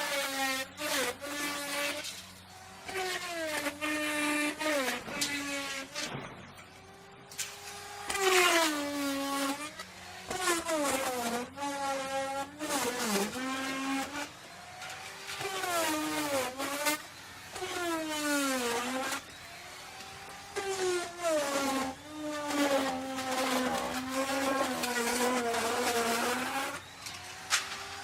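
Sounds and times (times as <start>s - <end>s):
electric router cutting wood: 0.0s - 28.0s.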